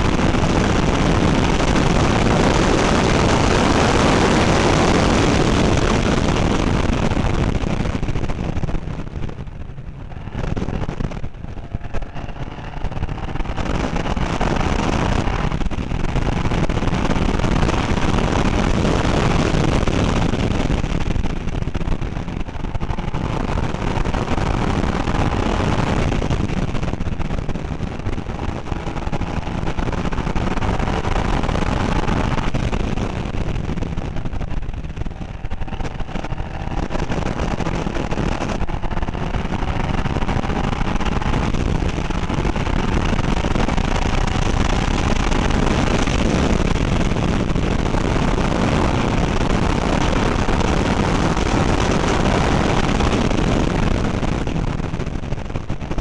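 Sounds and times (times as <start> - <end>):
race car engine revving: 0.0 - 55.0
road and wind noise: 0.0 - 56.0.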